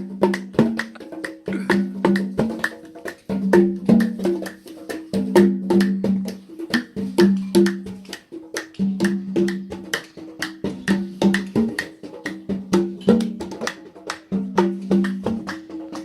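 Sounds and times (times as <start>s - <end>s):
quick percussion strikes: 0.0s - 16.0s.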